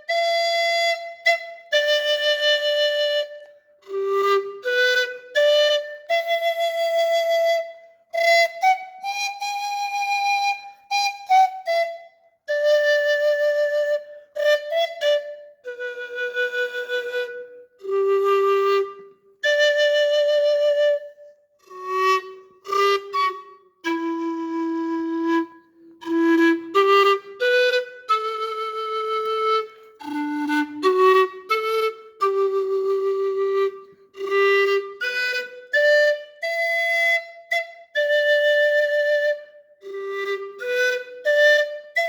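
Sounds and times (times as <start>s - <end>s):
panpipe melody: 0.0s - 42.0s.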